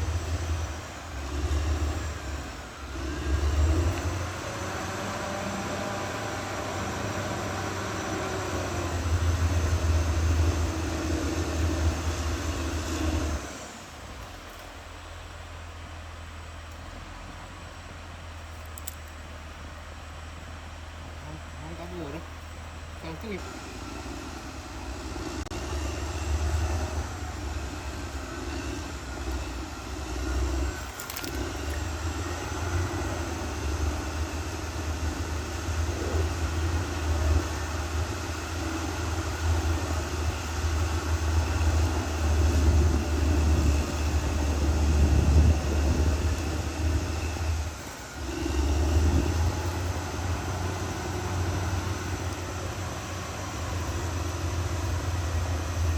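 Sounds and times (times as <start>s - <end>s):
bulldozer diesel engine drone: 0.0s - 55.9s.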